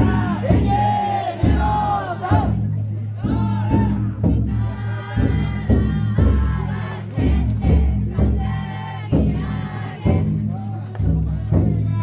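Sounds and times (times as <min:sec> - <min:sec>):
crowd chanting and shouting: 0:00.0 - 0:12.0
large drum struck: 0:00.0 - 0:12.0.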